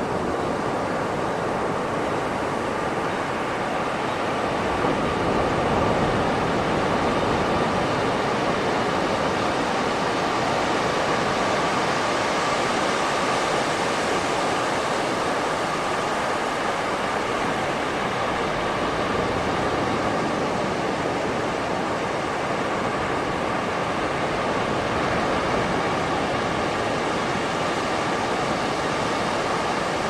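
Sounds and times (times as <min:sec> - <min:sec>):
waves breaking on beach: 0:00.0 - 0:30.0.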